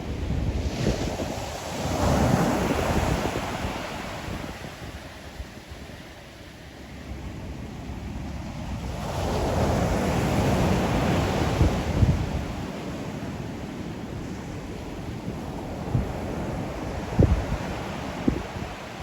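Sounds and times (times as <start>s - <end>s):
wind buffeting microphone: 0.0s - 5.9s, 8.2s - 13.4s, 14.1s - 19.0s.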